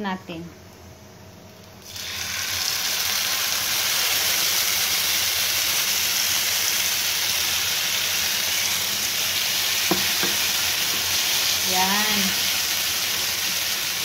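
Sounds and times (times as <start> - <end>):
chicken sizzling in a frying pan: 1.8 - 14.0.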